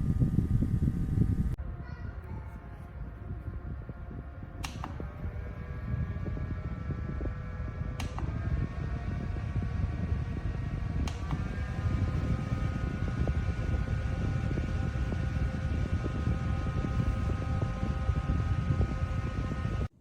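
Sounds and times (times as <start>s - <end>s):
desk fan motor whine: 0.0s - 20.0s
fan switch click: 3.6s - 19.7s.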